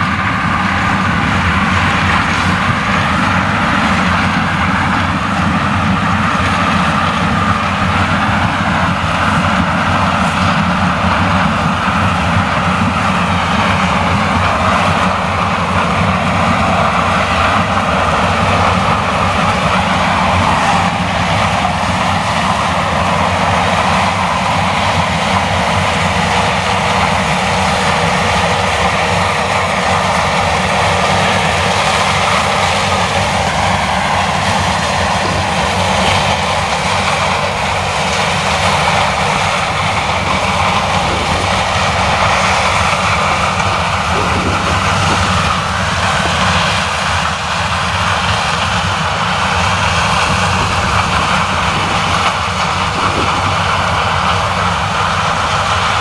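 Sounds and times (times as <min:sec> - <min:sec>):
deep engine hum: 0:00.0 - 0:56.0
harvester threshing noise: 0:00.0 - 0:56.0.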